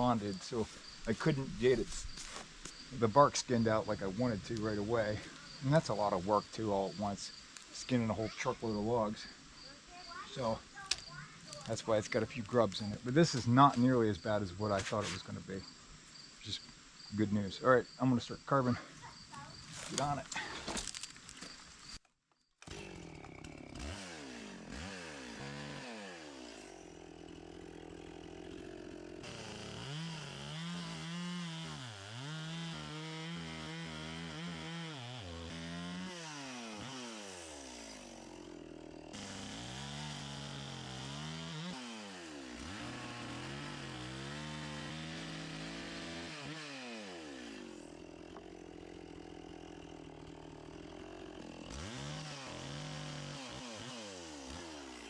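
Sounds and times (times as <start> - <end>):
chainsaw cutting wood: 0.0 - 15.4, 18.7 - 22.0, 22.6 - 55.0.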